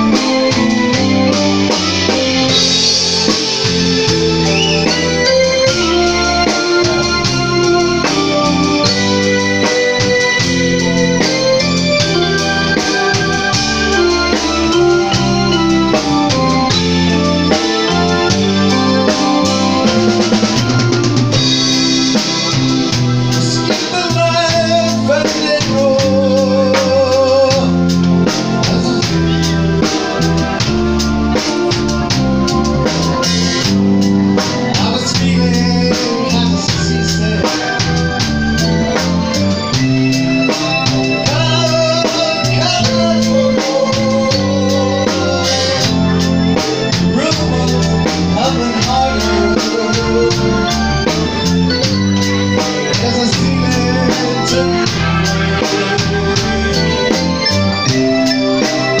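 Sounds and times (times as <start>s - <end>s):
drum kit beat: 0.0s - 59.0s
electric guitar: 0.0s - 59.0s
organ: 0.0s - 59.0s.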